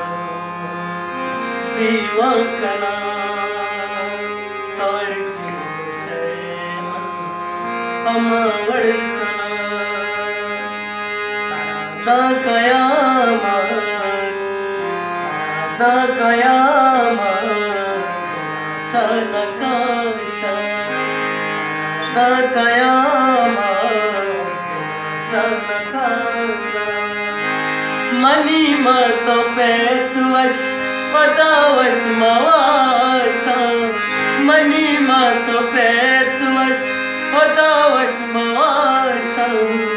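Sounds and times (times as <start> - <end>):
harmonium chords and drone: 0.0 - 39.9
man singing: 0.0 - 39.9.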